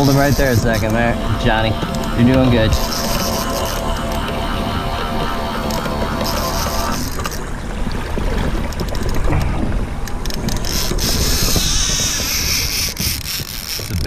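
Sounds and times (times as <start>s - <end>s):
water sloshing: 0.0s - 14.0s.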